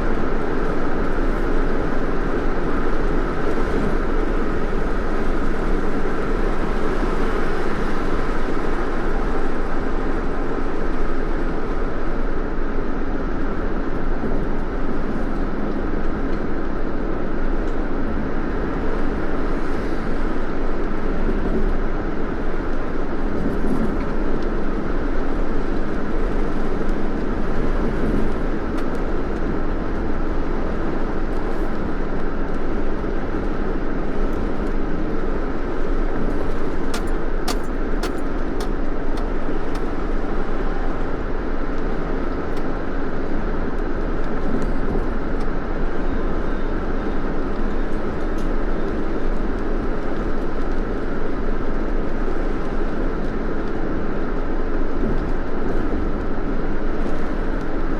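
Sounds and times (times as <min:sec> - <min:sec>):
car road and engine noise: 0:00.0 - 0:57.9.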